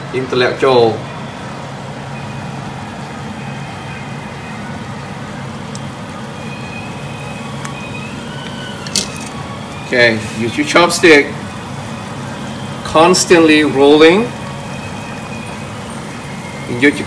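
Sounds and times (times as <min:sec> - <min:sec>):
dough sizzling in hot oil: 0:01.1 - 0:17.0.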